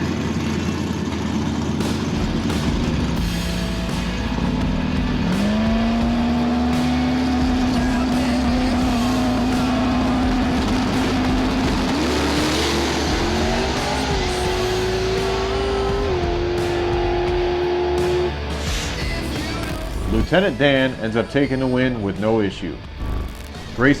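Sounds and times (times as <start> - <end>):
race car engines revving: 0.0 - 20.4.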